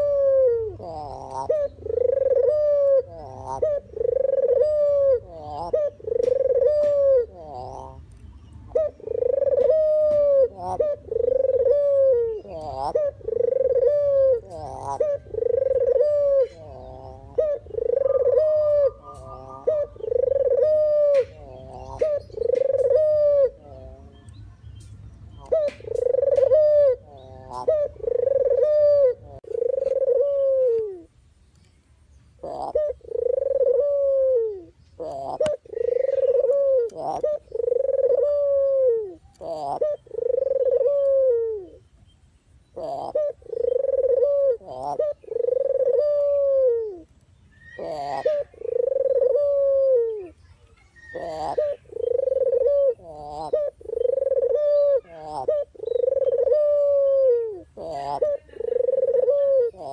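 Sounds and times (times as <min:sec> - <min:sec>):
dove cooing: 0:00.0 - 0:24.3, 0:25.4 - 0:31.2, 0:32.4 - 0:41.9, 0:42.7 - 0:59.9.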